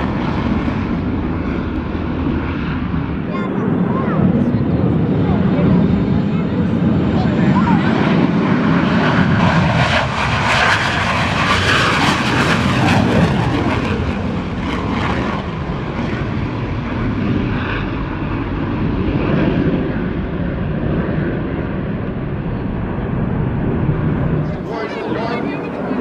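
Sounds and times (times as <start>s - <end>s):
jet engine roar with crackling: 0.0s - 26.0s.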